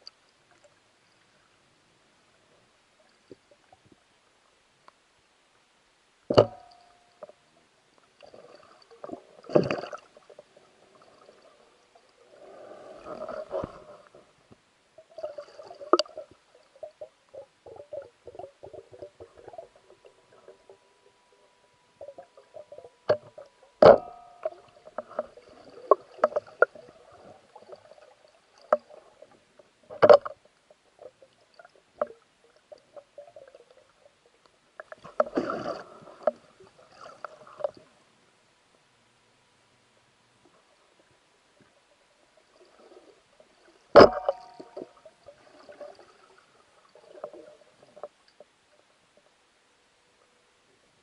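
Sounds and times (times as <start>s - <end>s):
underwater clicks and crackles: 0.0s - 1.6s, 2.5s - 5.0s, 6.3s - 38.0s, 40.4s - 49.4s.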